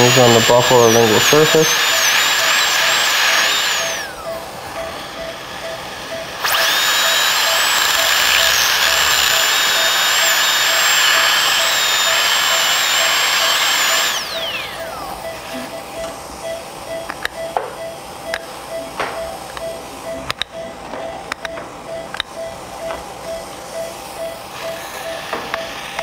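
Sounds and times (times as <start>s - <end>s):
dental drill whining: 0.0s - 26.0s.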